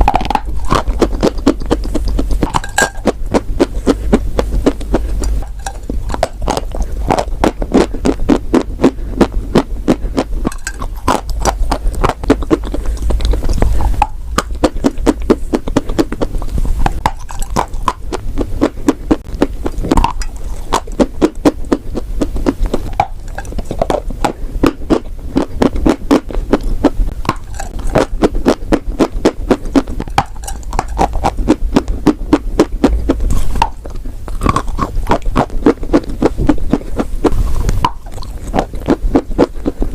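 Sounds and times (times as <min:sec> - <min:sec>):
crisp chewing crunches: 0:00.0 - 0:39.9
steady low hum: 0:00.0 - 0:39.9.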